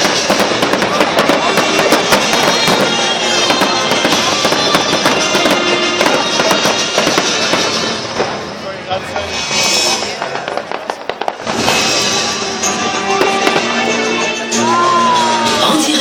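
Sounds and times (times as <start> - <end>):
music: 0.0 - 10.1, 11.4 - 16.0
fireworks crackling and popping: 0.0 - 16.0.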